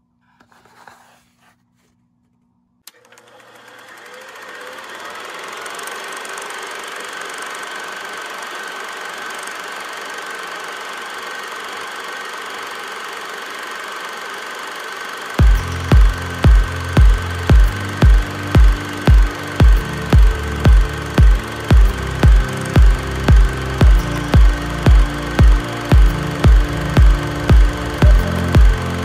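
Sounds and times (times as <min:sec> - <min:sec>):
machine-like whirring: 0:02.9 - 0:29.0.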